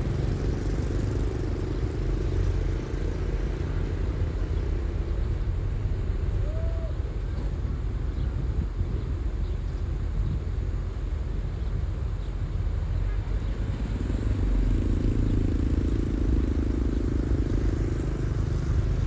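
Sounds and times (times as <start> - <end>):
deeper engine hum: 0.0 - 19.0
diesel engine rumbling: 0.0 - 19.0.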